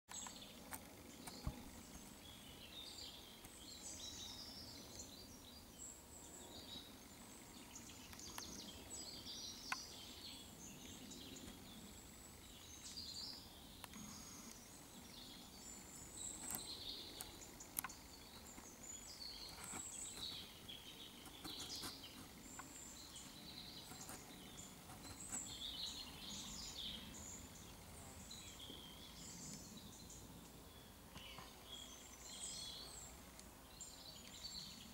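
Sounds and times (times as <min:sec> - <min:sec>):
background hiss: 0:00.1 - 0:34.9
birds chirping: 0:00.1 - 0:34.9.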